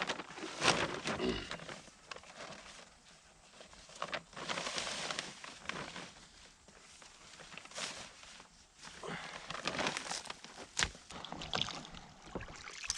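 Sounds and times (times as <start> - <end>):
fishing net rustling and scraping: 0.0 - 12.9.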